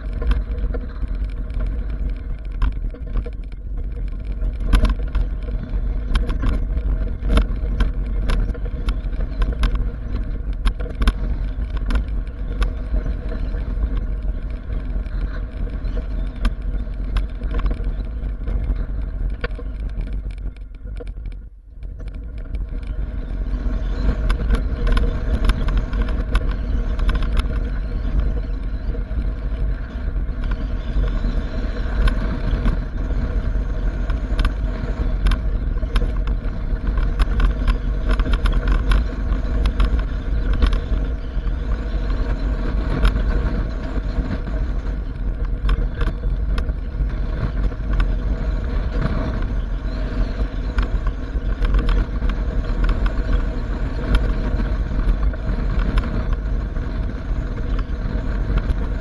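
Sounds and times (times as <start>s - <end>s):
low wind rumble on microphone: 0.0s - 59.0s
truck road and engine noise: 0.0s - 59.0s.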